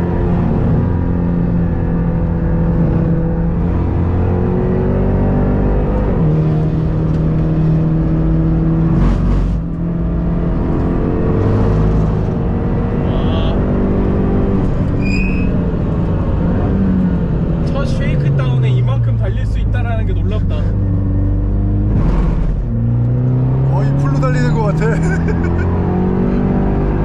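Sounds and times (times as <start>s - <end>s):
car engine accelerating through gears: 0.0s - 27.0s.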